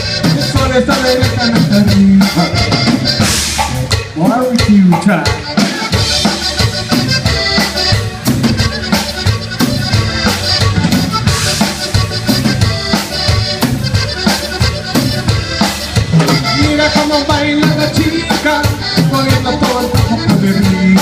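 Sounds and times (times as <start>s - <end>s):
accordion melody: 0.0s - 21.0s
live band playing dance music: 0.0s - 21.0s.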